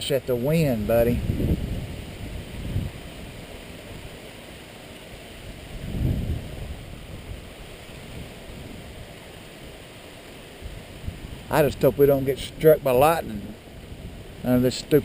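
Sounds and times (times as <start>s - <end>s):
rain: 0.0s - 15.0s
wind through trees: 0.0s - 15.0s.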